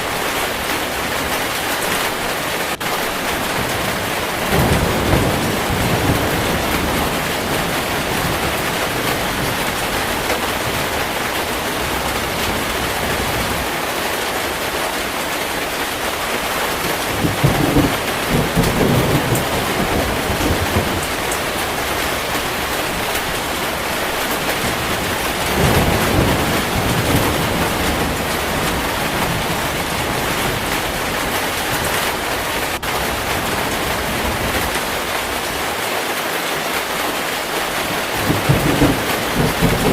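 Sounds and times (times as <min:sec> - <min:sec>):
heavy rain falling: 0:00.0 - 0:39.9
thunder rolling: 0:02.8 - 0:13.8, 0:16.2 - 0:35.6, 0:37.6 - 0:39.9.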